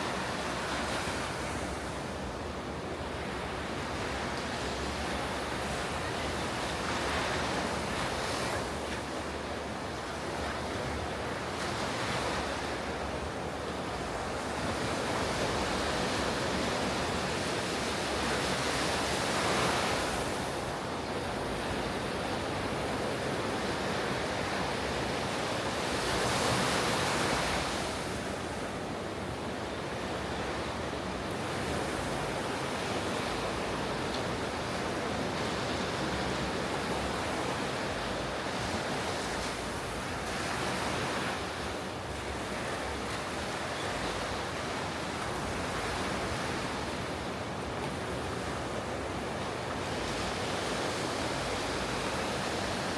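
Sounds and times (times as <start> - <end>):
ocean waves breaking: 0.0 - 52.9.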